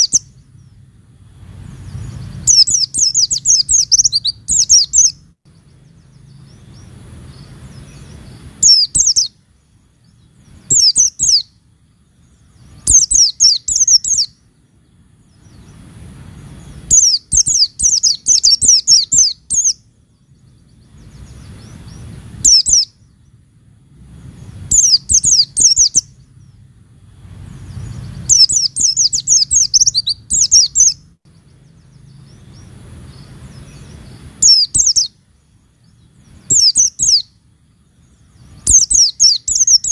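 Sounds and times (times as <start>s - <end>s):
bird twittering: 0.0s - 0.9s, 1.6s - 11.6s, 12.2s - 14.5s, 15.2s - 23.3s, 24.2s - 26.7s, 27.4s - 37.4s, 38.0s - 39.9s
faint low hum: 0.0s - 39.9s.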